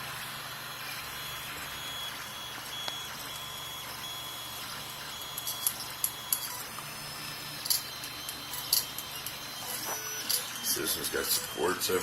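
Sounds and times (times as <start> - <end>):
stepper motors whining: 0.8 - 12.0.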